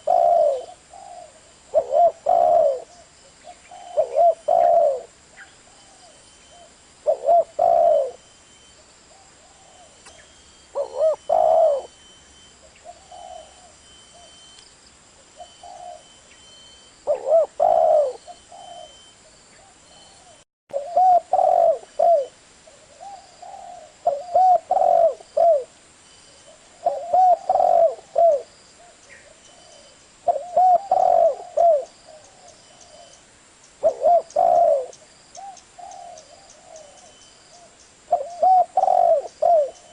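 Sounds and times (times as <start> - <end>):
dove cooing: 0.0 - 8.3, 9.1 - 14.4, 15.3 - 16.2, 17.0 - 33.2, 33.8 - 39.9.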